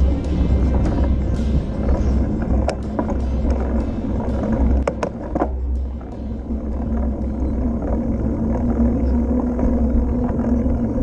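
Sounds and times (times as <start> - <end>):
bike tyres rumbling on pavement: 0.0 - 11.0
steady low hum: 0.0 - 11.0
wind buffeting microphone: 0.0 - 11.0.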